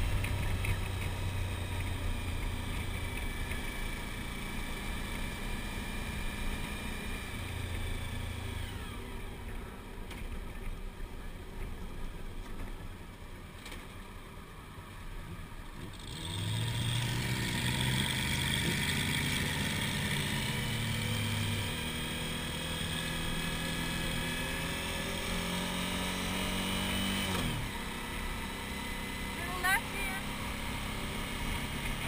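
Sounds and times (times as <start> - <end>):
motorcycle engine at road speed: 0.0 - 32.0.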